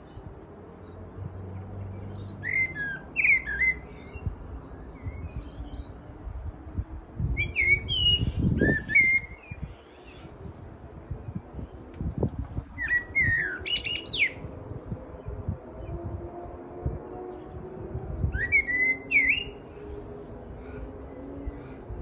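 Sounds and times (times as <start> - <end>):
songbird chirping and warbling: 0.0 - 22.0.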